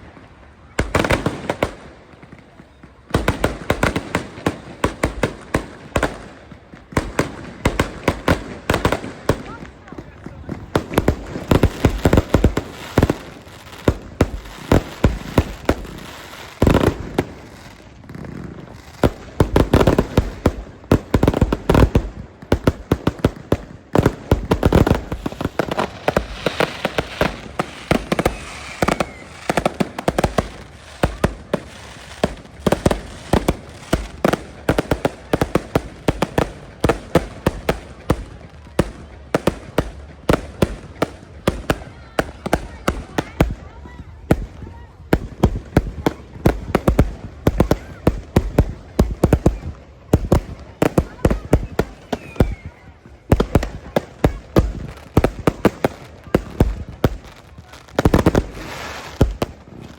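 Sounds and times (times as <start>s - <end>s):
fireworks bangs and crackles: 0.0s - 59.9s
heavy fireworks booms: 0.0s - 59.9s.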